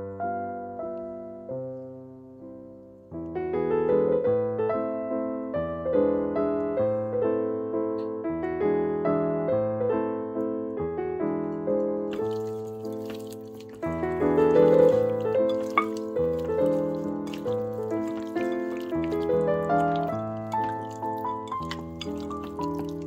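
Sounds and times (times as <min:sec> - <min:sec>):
slow piano melody: 0:00.0 - 0:23.0.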